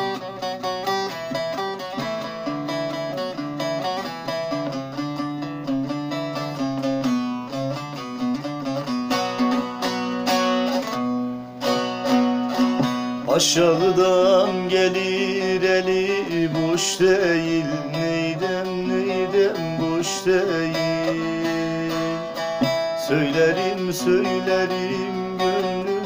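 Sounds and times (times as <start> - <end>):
plucked lute melody: 0.0 - 26.0.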